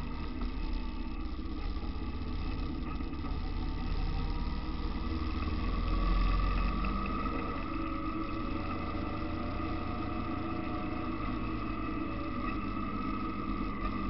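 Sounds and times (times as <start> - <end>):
road and wind noise: 0.0 - 14.0
vehicle engine running: 0.0 - 14.0.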